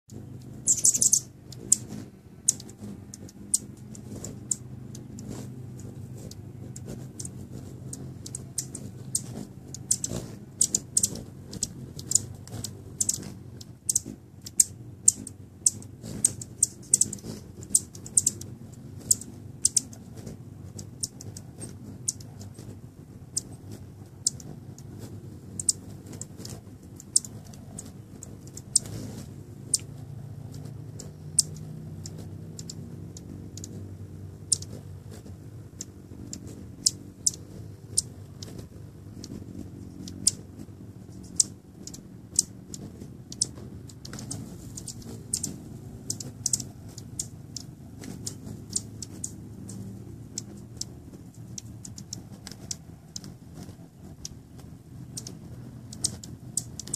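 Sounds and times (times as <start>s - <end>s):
hummingbird chip notes: 0.1s - 56.9s
hummingbird wings humming: 0.1s - 56.9s.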